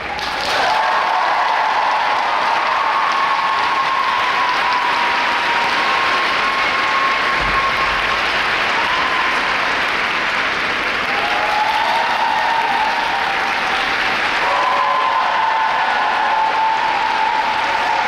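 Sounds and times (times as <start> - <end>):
crowd applauding: 0.0 - 18.0.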